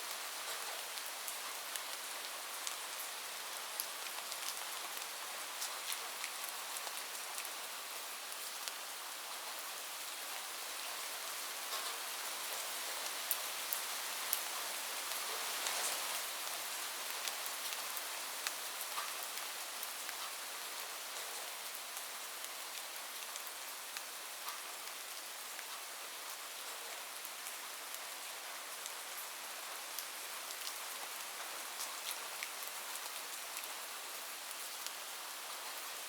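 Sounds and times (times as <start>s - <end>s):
rain falling on a roof: 0.0s - 36.0s.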